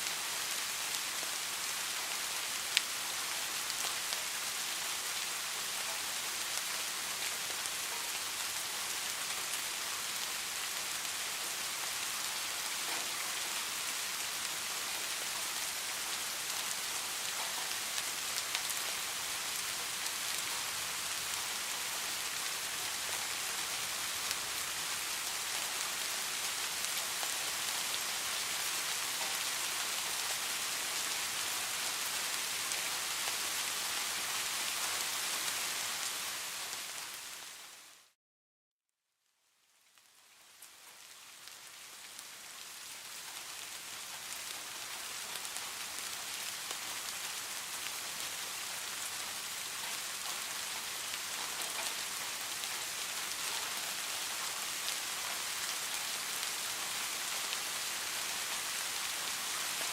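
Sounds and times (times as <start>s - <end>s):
steady rain falling: 0.0s - 38.2s, 39.4s - 59.9s.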